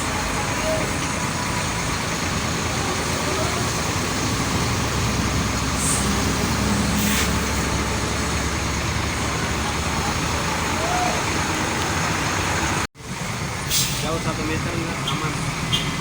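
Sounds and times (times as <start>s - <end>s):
bus engine idling: 0.0s - 16.0s
street traffic: 0.0s - 16.0s.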